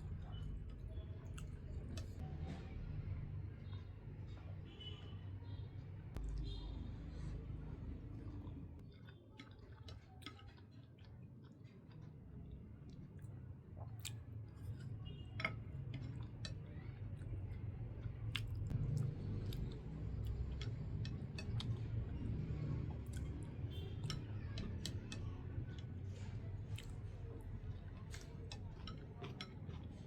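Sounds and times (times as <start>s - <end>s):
person chewing noodles: 0.0s - 2.2s, 6.2s - 30.0s.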